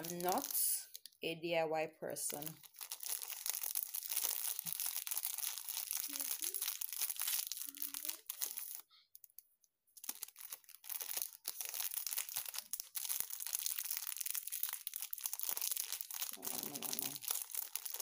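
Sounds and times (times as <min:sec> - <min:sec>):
plastic packet crinkling: 0:00.0 - 0:01.2, 0:02.3 - 0:09.4, 0:10.0 - 0:18.0.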